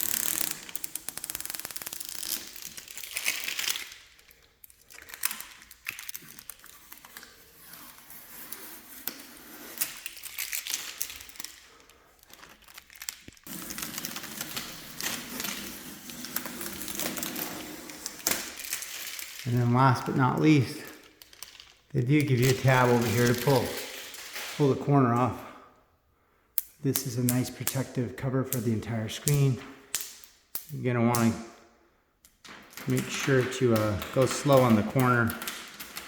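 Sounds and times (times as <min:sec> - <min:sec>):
plastic wrap crinkling: 0:00.0 - 0:25.4, 0:32.3 - 0:36.0.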